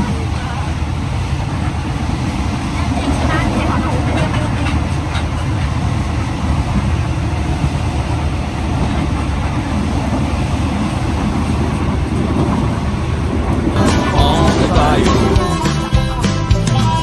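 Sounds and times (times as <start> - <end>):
train rumbling on rails: 0.0 - 16.2.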